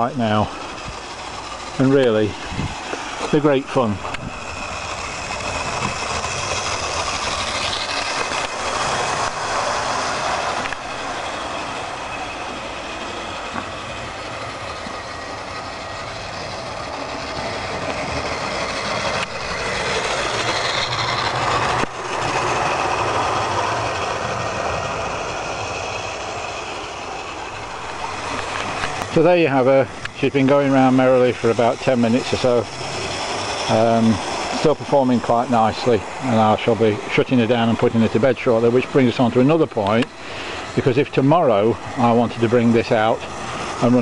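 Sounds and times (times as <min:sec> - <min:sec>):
model train motor whirring: 0:00.0 - 0:44.0
wheels rattling on rails: 0:00.0 - 0:44.0.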